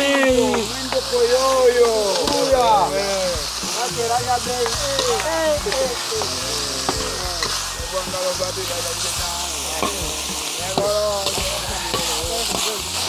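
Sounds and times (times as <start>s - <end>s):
food sizzling in pan: 0.0s - 13.0s.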